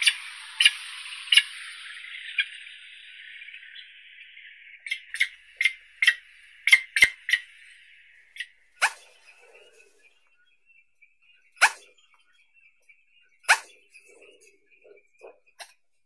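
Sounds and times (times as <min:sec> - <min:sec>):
spoonbill calling: 0:00.0 - 0:10.6, 0:11.2 - 0:12.5, 0:13.1 - 0:15.8.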